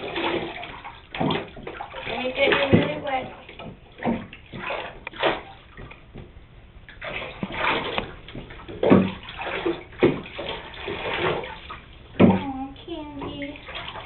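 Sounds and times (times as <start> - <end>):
water splashing in a bathtub: 0.0 - 14.0.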